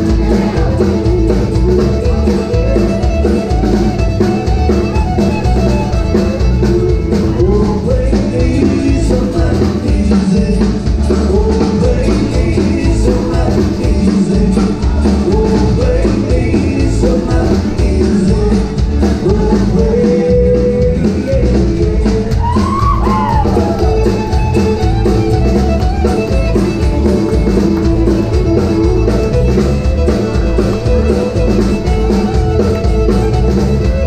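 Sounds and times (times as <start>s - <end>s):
fiddle: 0.0s - 9.4s, 12.4s - 34.0s
acoustic guitar: 0.0s - 34.0s
drum kit: 0.0s - 34.0s
electric bass: 0.0s - 34.0s.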